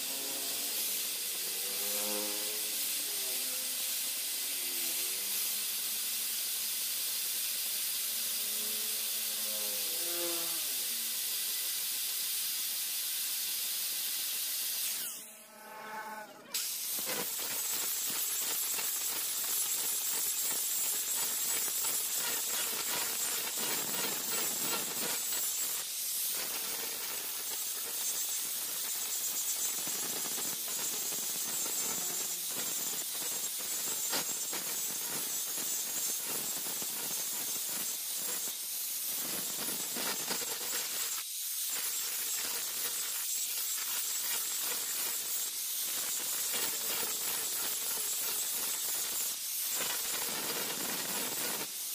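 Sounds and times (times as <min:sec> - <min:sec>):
angle grinder grinding steel: 0:00.0 - 0:11.8, 0:14.7 - 0:51.9.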